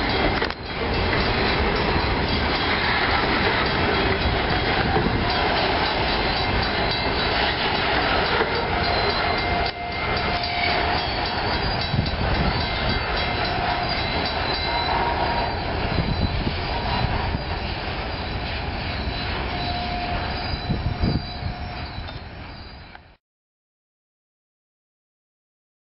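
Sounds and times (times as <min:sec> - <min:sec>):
train wheels rumbling on rail: 0:00.0 - 0:23.2
wheel squeals: 0:00.0 - 0:23.2.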